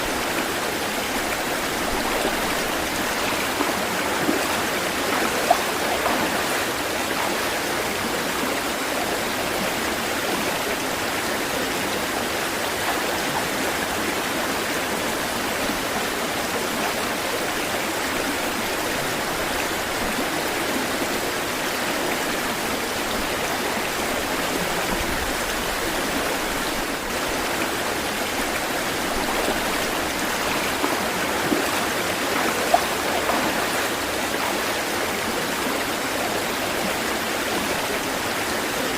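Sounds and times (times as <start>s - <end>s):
stream water rushing: 0.0s - 38.9s
water splashes: 0.0s - 38.9s.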